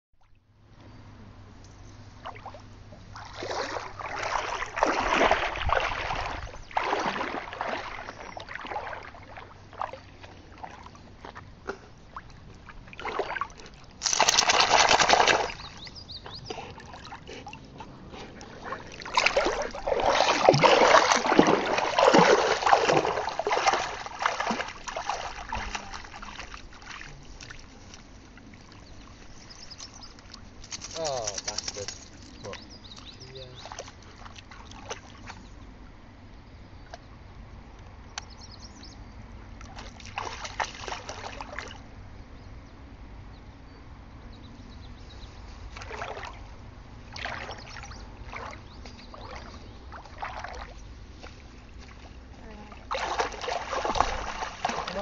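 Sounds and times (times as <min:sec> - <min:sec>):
dog wading through shallow water: 0:01.9 - 0:35.9, 0:38.6 - 0:42.0, 0:44.9 - 0:55.0.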